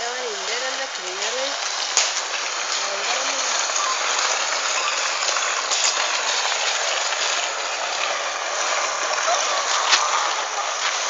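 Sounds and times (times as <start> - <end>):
palm frond scraping over pavement: 0.0 - 11.0.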